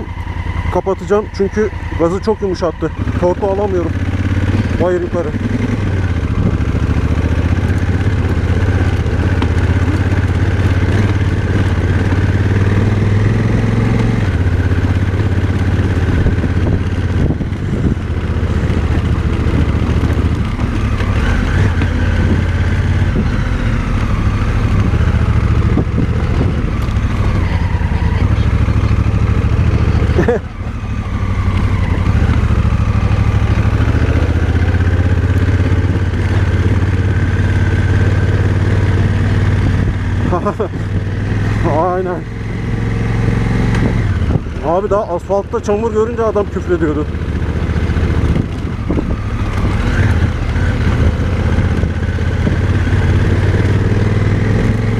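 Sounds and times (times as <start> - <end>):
motorcycle engine climbing uphill: 0.0 - 54.9.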